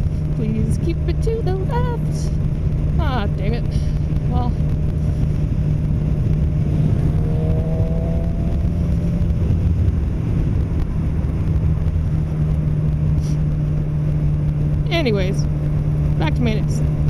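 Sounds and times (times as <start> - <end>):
motorcycle engine droning: 0.0 - 17.0
road and wind rumble: 0.0 - 17.0.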